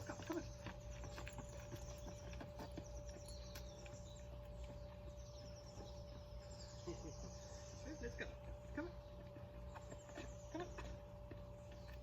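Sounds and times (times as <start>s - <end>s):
insects trilling: 0.0s - 12.0s
low hum: 0.0s - 12.0s.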